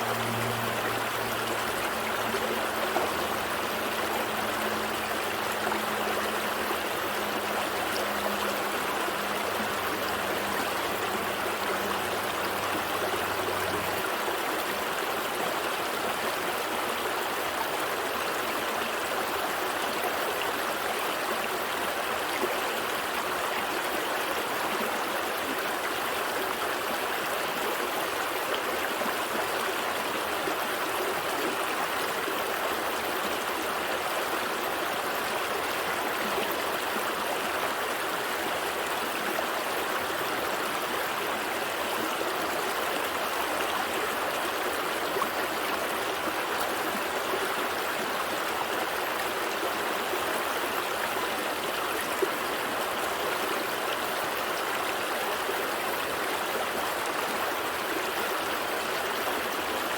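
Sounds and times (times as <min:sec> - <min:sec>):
gentle stream flowing: 0:00.0 - 0:59.9.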